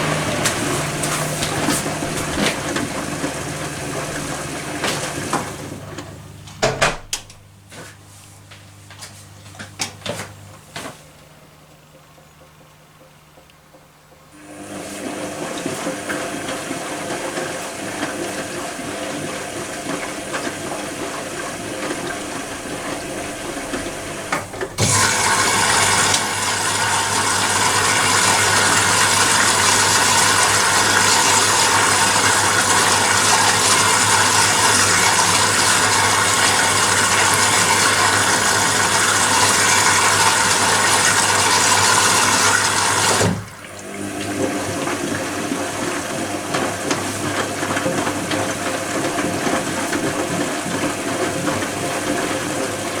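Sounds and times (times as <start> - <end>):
water rushing through washing machine: 0.0 - 7.8, 14.1 - 53.0
washing machine low hum: 0.0 - 53.0.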